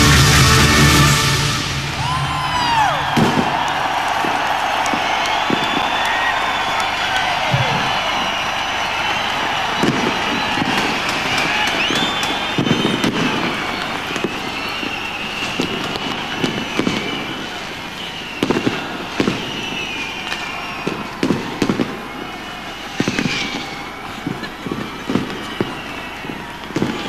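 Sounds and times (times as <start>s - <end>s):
firework bangs: 2.0s - 27.0s
firework crackle: 2.0s - 27.0s
high wavering firework whistles: 2.0s - 27.0s.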